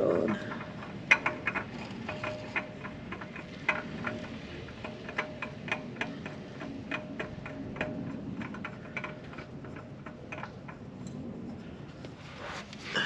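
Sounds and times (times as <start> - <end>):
oil filter clicking while threaded: 0.3 - 11.2.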